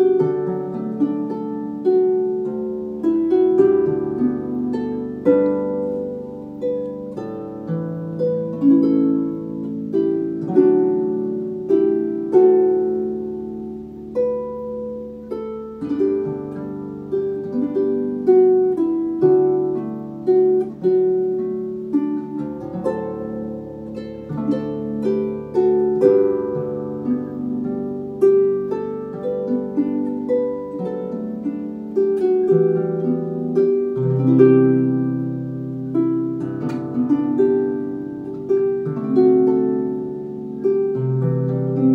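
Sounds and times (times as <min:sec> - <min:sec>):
harp playing gentle melody: 0:00.0 - 0:41.9.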